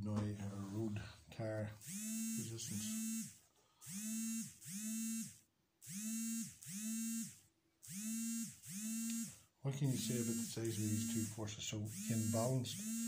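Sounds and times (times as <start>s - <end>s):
small motor buzzing: 1.8s - 13.0s.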